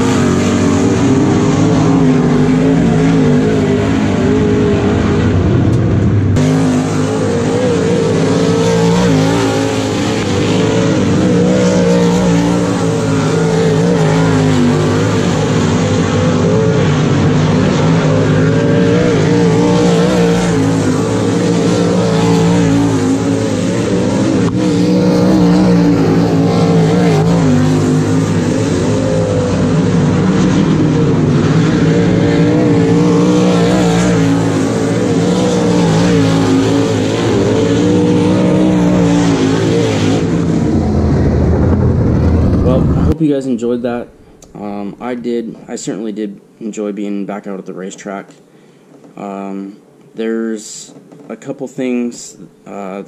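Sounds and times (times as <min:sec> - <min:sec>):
race car engines running hard: 0:00.0 - 0:46.5.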